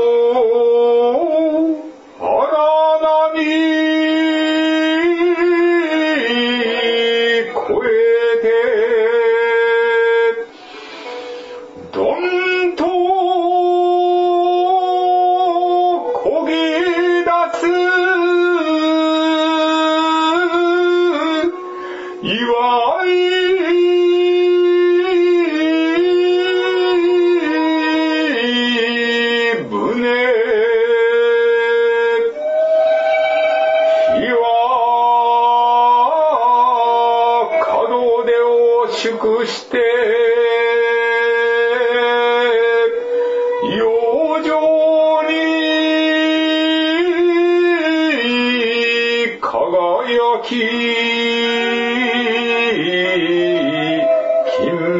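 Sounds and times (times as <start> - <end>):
man chanting long held notes: 0.0 - 54.9.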